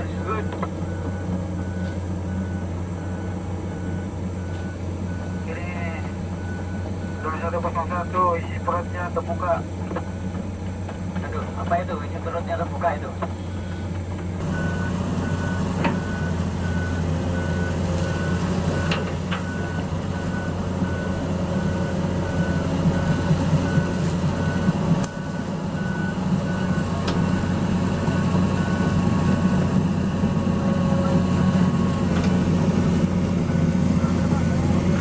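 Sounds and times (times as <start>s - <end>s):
travel alarm beeping: 0.0s - 32.0s
excavator running: 0.0s - 35.0s.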